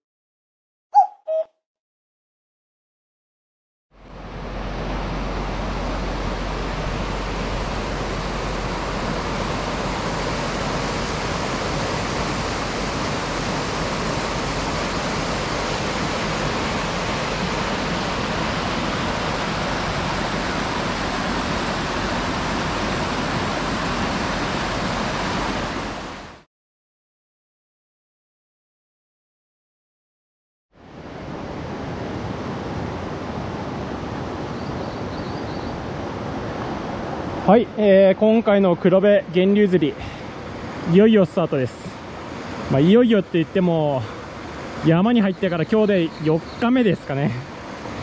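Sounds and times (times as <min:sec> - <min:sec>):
river water rushing: 0:04.0 - 0:26.4, 0:30.8 - 0:48.0.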